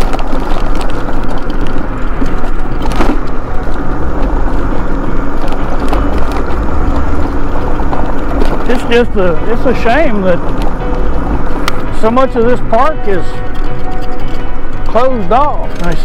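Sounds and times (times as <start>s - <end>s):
rattles and knocks: 0.0s - 16.0s
scooter tyres rumbling on asphalt: 0.0s - 16.0s.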